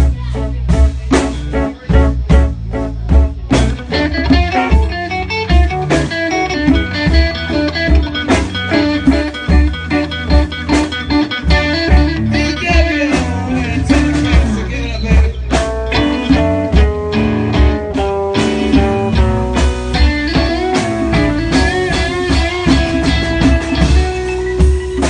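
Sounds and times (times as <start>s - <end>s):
bass guitar: 0.0s - 25.0s
electric guitar melody: 0.0s - 25.0s
steady drum beat: 0.0s - 25.0s.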